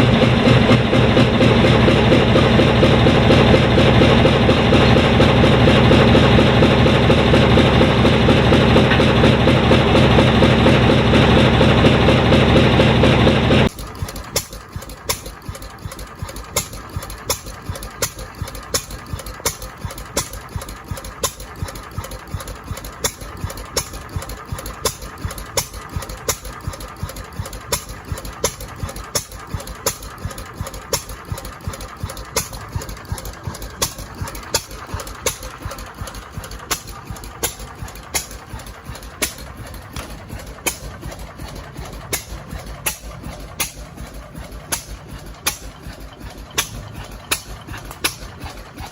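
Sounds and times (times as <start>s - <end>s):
engine running with sharp beats: 0.0s - 48.9s.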